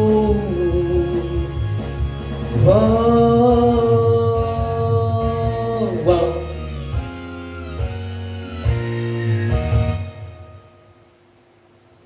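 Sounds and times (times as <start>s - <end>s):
person singing pop ballad: 0.0s - 10.1s
backing track music: 0.0s - 11.0s.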